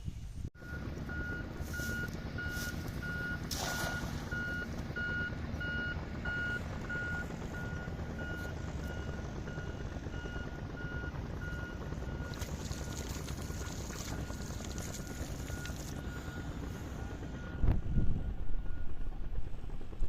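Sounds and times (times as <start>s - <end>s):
low steady rumble: 0.0s - 20.0s
reversing alarm beeping: 0.6s - 19.2s.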